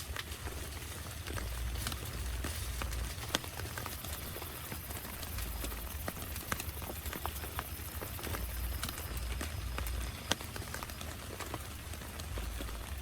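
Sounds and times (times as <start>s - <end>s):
rain tapping on a tent: 0.0s - 13.0s
steady low rumble: 0.1s - 13.0s.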